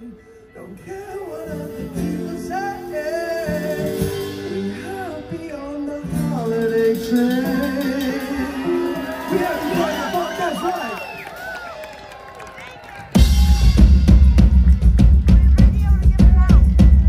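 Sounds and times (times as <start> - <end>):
live band with singing: 0.0 - 12.0, 13.1 - 17.0.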